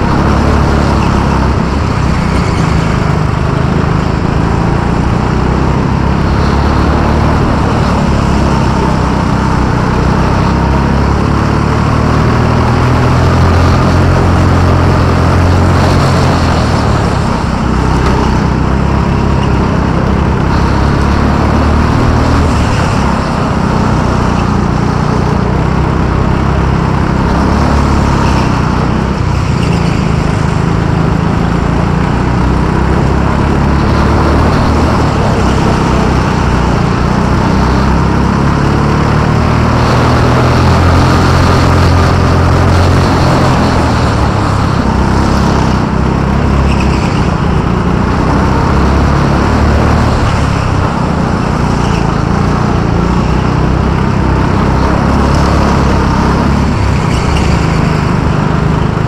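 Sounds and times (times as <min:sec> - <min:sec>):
go-kart engine running: 0:00.0 - 0:59.0
rushing noise: 0:00.0 - 0:59.0.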